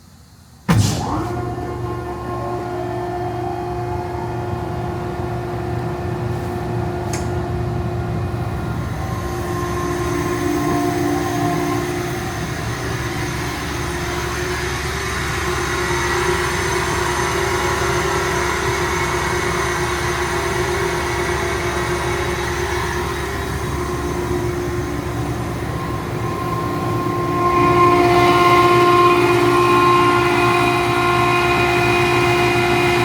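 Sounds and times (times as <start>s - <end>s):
air compressor humming: 0.4s - 33.0s.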